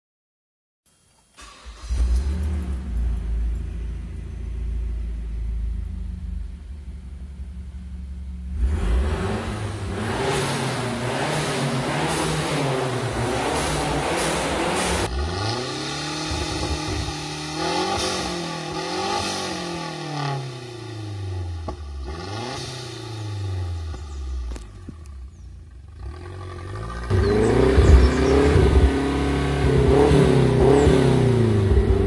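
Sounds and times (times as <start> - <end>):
car engine revving: 1.4 - 32.0
deep exhaust drone: 1.8 - 32.0.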